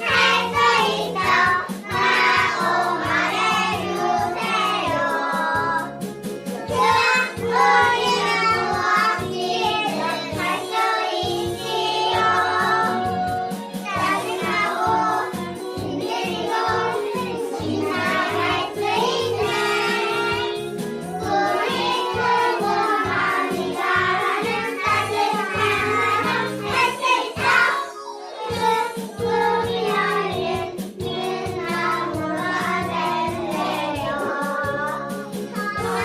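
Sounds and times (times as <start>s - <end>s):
children singing: 0.0s - 5.9s, 6.5s - 36.0s
upbeat instrumental backing: 0.0s - 36.0s.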